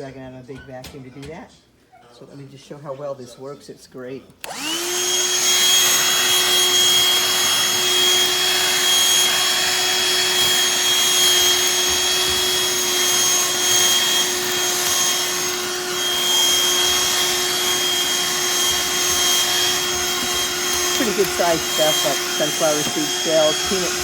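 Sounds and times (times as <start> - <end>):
handheld vacuum running: 4.4 - 24.0.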